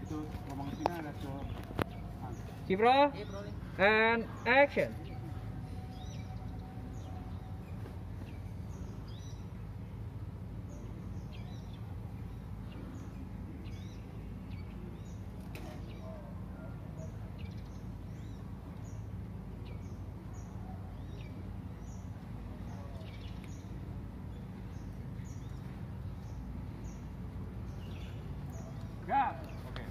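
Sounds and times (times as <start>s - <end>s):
low outdoor background rumble: 0.0s - 29.9s
small birds chirping: 0.0s - 29.9s.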